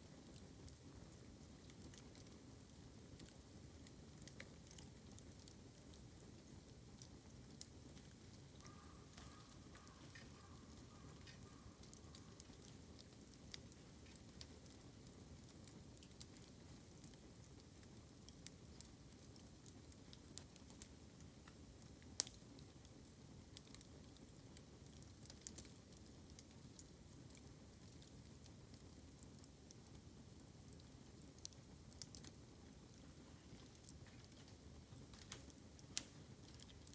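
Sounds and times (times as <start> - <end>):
bamboo fire crackling and popping: 0.0 - 36.9.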